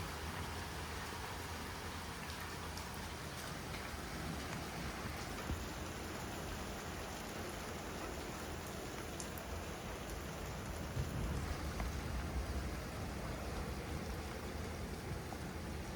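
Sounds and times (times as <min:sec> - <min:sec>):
hail falling: 0:01.8 - 0:15.9.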